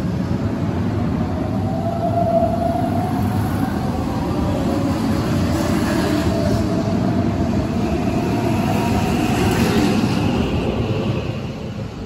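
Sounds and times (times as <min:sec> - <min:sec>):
electric train accelerating: 0:00.0 - 0:12.0.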